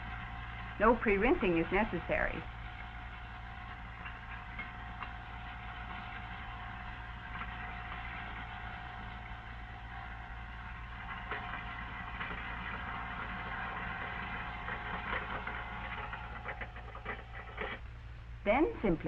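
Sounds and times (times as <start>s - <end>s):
food waste disposer motor hum: 0.0s - 17.9s.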